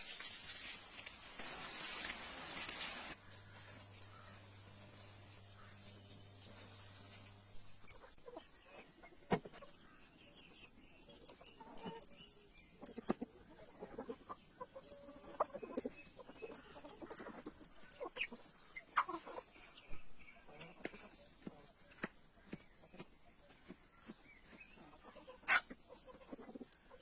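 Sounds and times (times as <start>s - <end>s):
chickens clucking: 0.6s - 27.0s.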